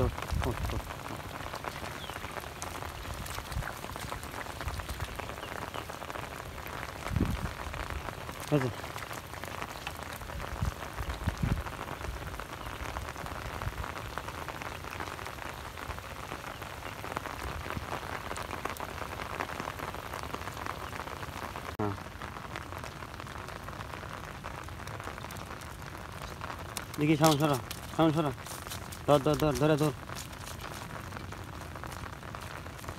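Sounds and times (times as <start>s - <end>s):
rain falling on water and mud: 0.0s - 32.9s.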